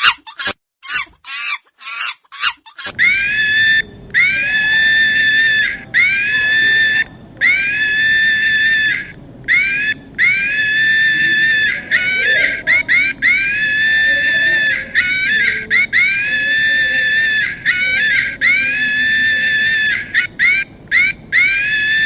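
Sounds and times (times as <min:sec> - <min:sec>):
monkey screaming high-pitched: 0:00.0 - 0:22.0.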